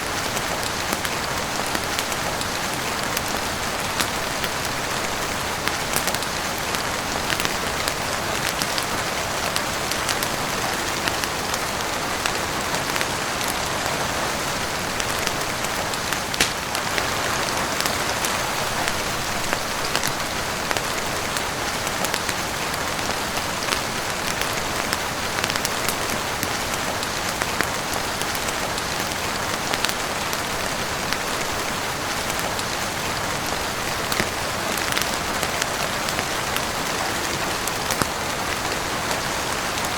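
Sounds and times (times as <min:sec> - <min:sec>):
crackling wood fire: 0:00.0 - 0:39.9
heavy rain on roof and windows: 0:00.0 - 0:39.9.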